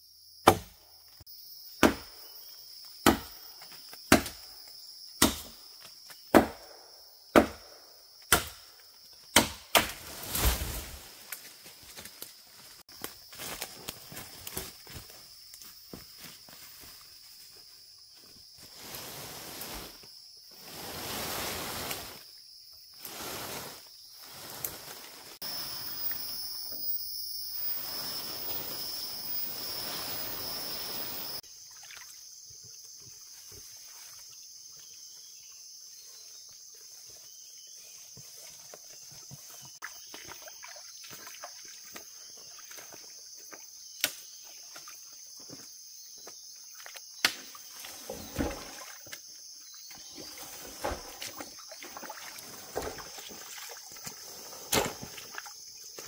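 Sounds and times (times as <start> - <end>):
forest insects chirring: 0.0 - 56.0.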